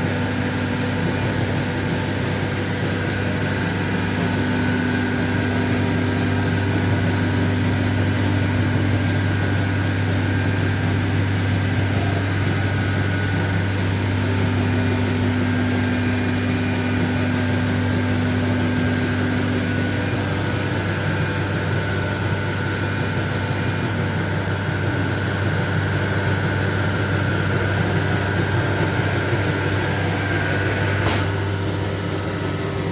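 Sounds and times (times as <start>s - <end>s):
router machine hum: 0.0s - 32.9s.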